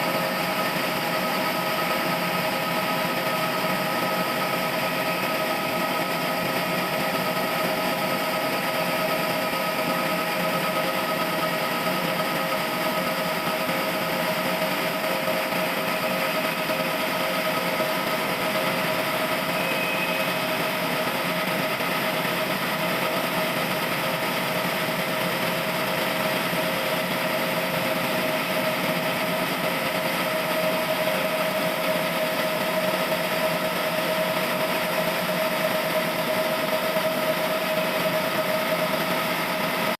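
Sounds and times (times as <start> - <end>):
sawmill machine droning: 0.0 - 39.9.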